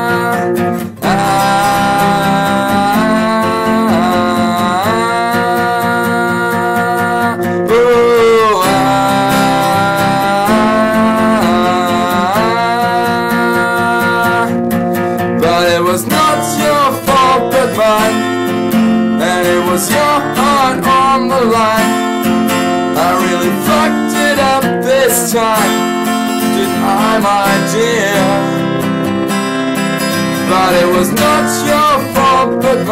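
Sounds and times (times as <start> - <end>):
man singing: 0.0 - 14.6, 15.2 - 29.0, 30.0 - 32.9
acoustic guitar strummed: 0.0 - 32.9.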